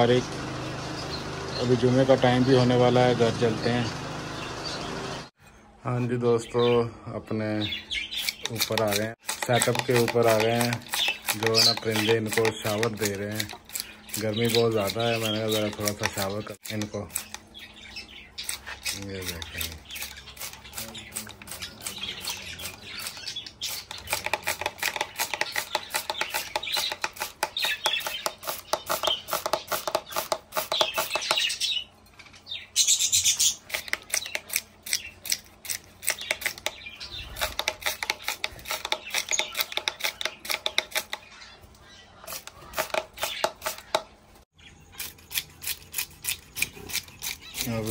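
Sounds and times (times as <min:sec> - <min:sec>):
caged birds chirping and chattering: 0:00.0 - 0:47.9.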